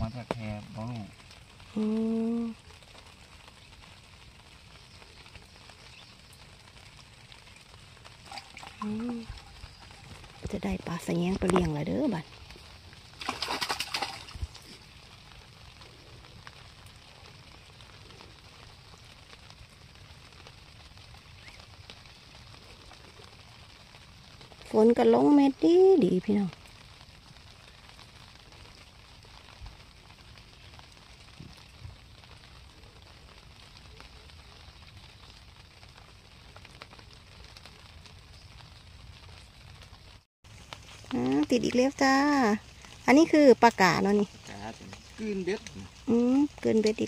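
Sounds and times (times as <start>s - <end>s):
light rain hissing: 0.0s - 47.0s
raindrop ticks: 0.0s - 47.0s.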